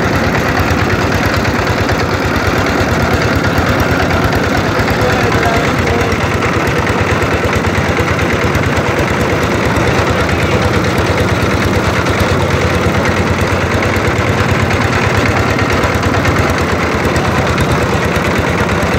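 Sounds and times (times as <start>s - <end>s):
boat engine chugging: 0.0s - 18.9s
water rushing around hull: 0.0s - 18.9s.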